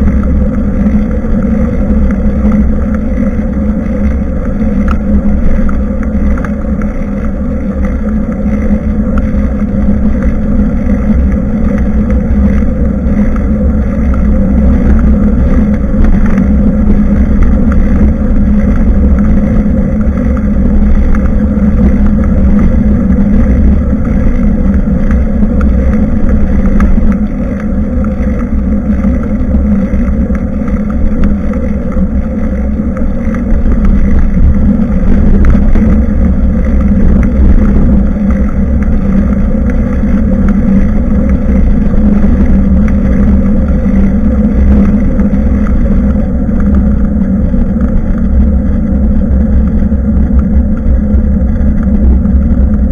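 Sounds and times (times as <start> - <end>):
wind and road noise rumble: 0.0 - 52.9.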